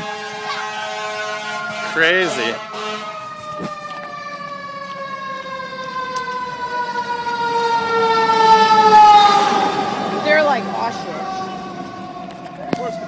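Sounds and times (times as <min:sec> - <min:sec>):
fire engine siren wailing: 0:00.0 - 0:13.0.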